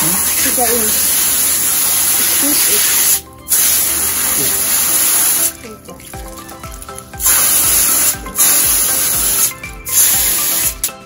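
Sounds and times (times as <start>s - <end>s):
hose nozzle spraying water: 0.0s - 10.9s.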